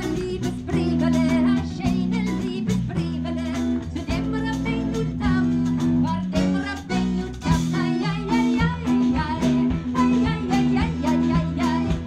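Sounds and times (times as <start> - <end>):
band playing live: 0.0 - 12.0
guitars strumming: 0.0 - 12.0.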